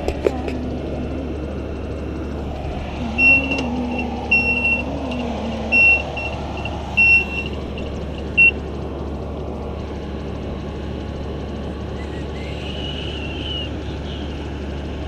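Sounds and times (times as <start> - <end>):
ladder truck engine droning: 0.0 - 15.0
low wavering hum: 0.0 - 15.0.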